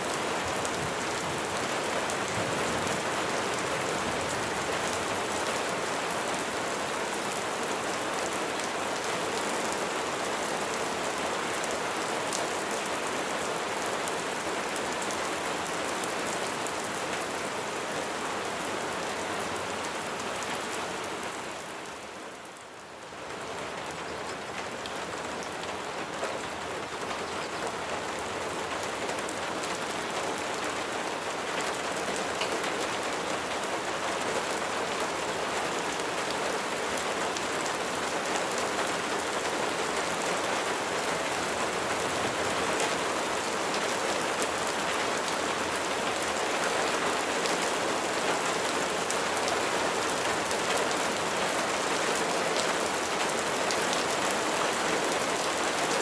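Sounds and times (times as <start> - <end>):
rain patter on a surface: 0.0 - 56.0.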